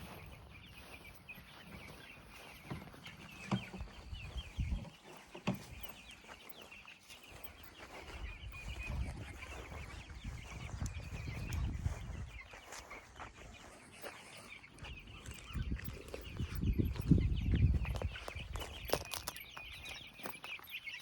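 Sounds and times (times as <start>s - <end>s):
chicks peeping and cheeping: 0.0s - 21.0s.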